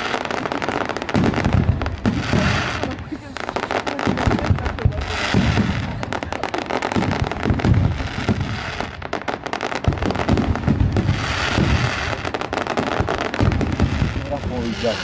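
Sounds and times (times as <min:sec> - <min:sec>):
deep booms of fireworks: 0:00.0 - 0:15.0
fireworks crackling and popping: 0:00.0 - 0:15.0.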